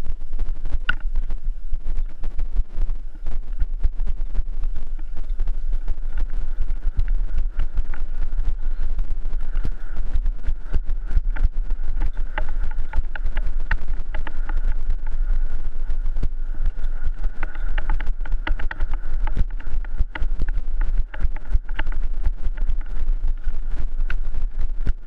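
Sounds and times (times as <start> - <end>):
heavy low rumble: 0.0 - 25.0
mountain bike rattling on dirt: 2.0 - 25.0.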